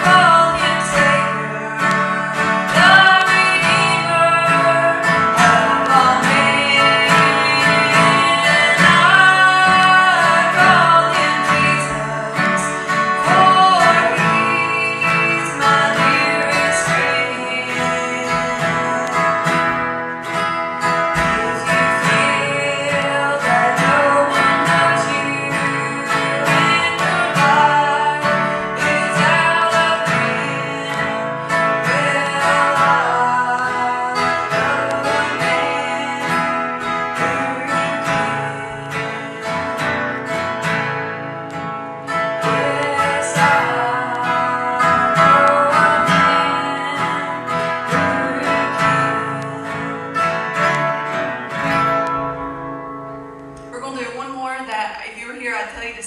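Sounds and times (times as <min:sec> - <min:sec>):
person singing: 0:00.0 - 0:52.1
strummed acoustic guitar: 0:00.0 - 0:55.8.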